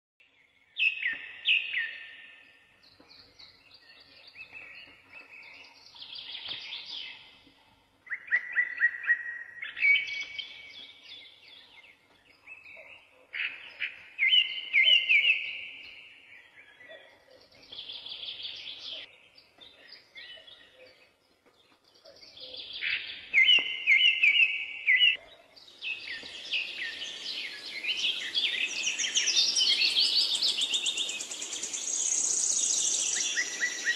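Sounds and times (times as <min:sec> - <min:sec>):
songbirds chirping: 0:00.2 - 0:33.9.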